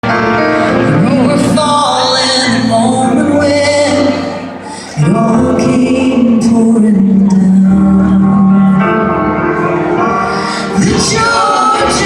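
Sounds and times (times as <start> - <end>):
live country band music: 0.0 - 12.0.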